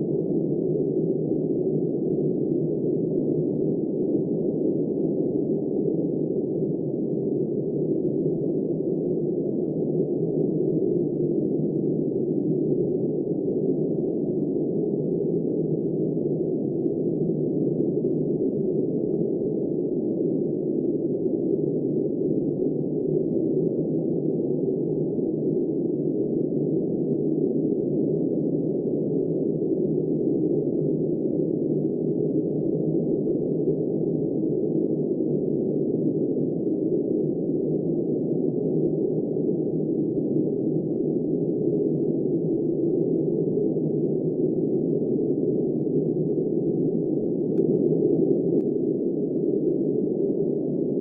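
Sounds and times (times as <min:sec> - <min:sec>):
muffled low wind noise: 0:00.0 - 0:51.0.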